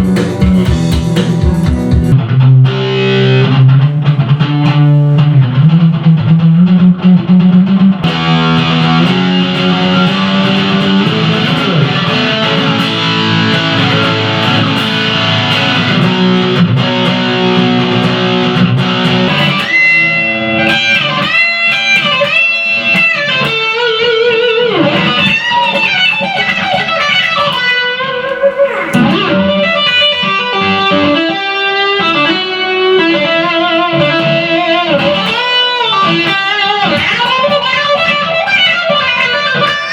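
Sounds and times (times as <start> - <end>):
electric guitar band music: 0.0 - 39.9
electric guitar lead line: 0.0 - 39.9.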